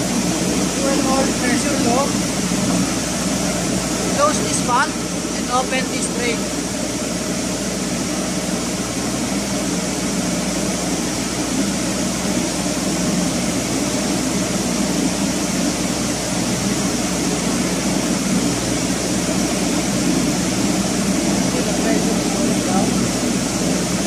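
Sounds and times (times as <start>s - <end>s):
engine room machinery hum: 0.0s - 24.0s.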